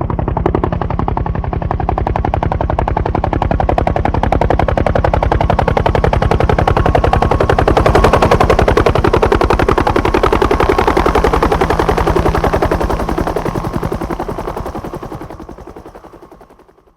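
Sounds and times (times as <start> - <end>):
helicopter rotor beating: 0.0 - 16.9
helicopter turbine whine: 0.0 - 16.9.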